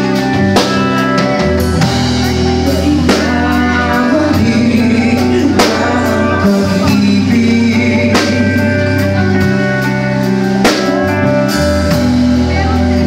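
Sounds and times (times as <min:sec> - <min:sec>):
person singing: 0:00.0 - 0:13.0
rock band playing: 0:00.0 - 0:13.0.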